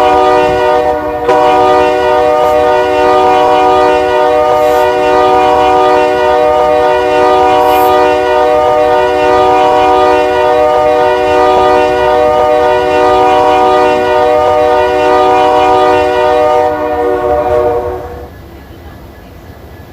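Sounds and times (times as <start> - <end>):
locomotive air horn chord: 0.0 - 18.3.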